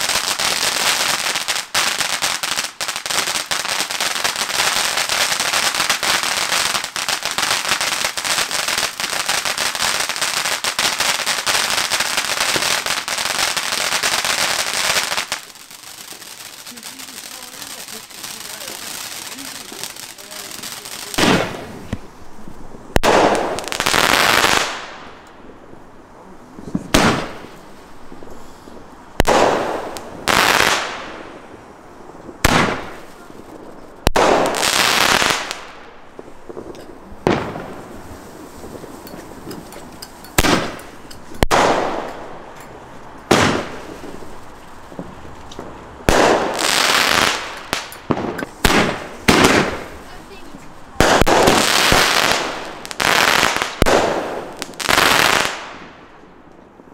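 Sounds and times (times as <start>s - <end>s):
fireworks launch bangs: 0.0s - 22.1s, 22.9s - 25.6s, 26.6s - 31.6s, 32.2s - 56.2s
fireworks crackling and hissing: 0.0s - 56.9s.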